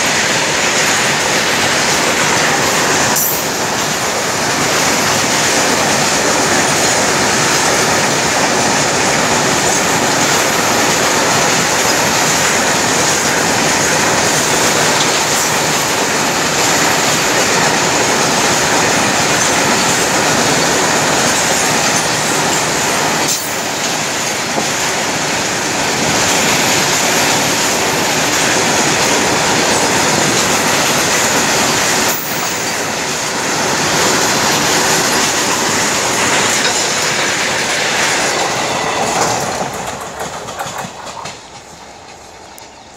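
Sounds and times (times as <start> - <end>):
train wheels running on rails: 0.0 - 42.9.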